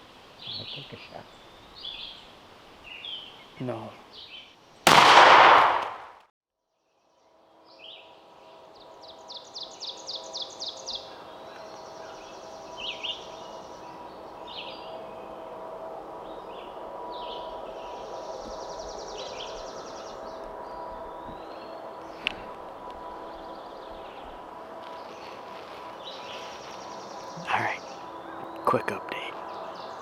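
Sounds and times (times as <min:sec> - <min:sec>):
songbirds singing: 0:00.0 - 0:05.5, 0:07.0 - 0:30.0.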